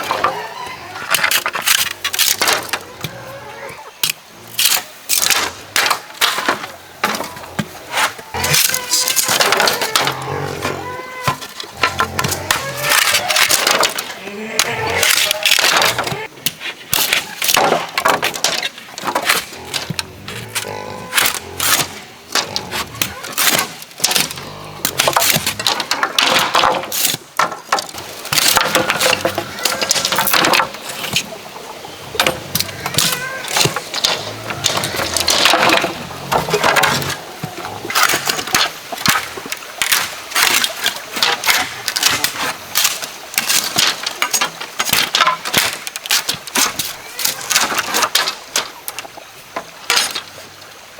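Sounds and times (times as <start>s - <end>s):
bamboo cracking and knocking: 0.0s - 3.2s, 3.9s - 50.9s.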